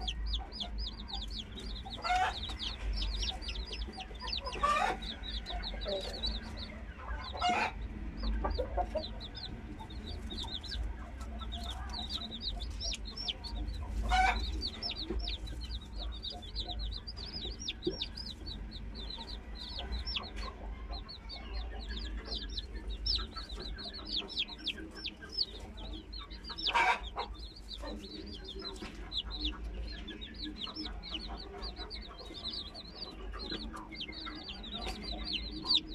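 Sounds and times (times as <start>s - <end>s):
chicks peeping: 0.0s - 35.9s.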